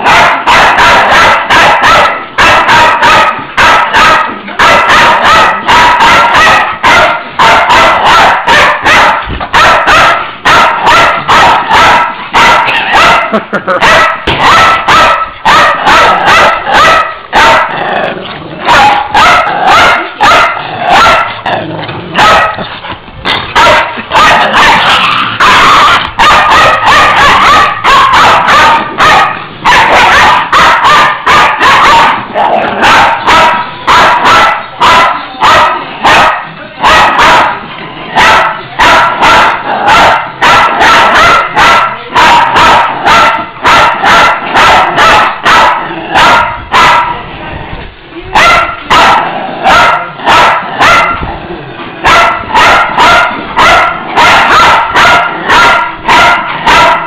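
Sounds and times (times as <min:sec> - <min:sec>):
small dogs barking rapidly: 0:00.0 - 0:47.3, 0:48.3 - 0:57.0.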